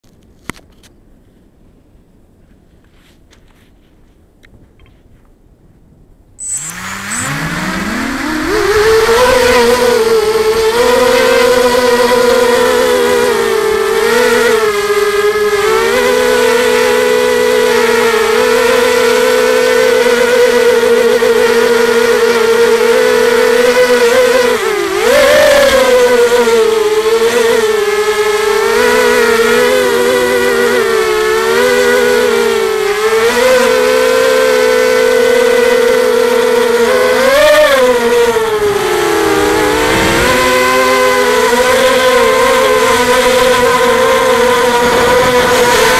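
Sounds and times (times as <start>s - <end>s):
drone motors whining: 6.4s - 45.9s.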